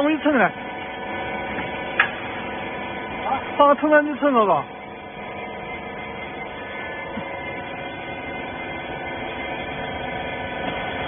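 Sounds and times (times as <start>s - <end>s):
motor and pump humming: 0.0s - 11.0s.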